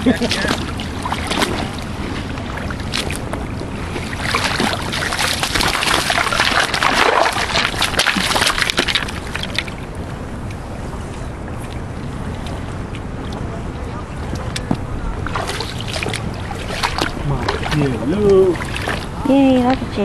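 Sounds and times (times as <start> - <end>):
rushing river water: 0.0 - 20.0
water splashing: 0.0 - 20.0.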